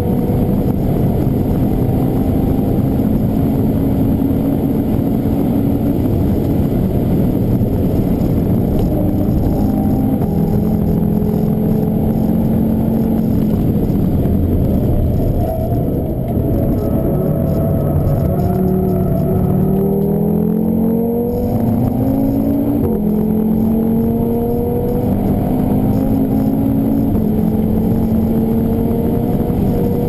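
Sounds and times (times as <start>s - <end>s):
car engine at high revs: 0.0s - 30.0s.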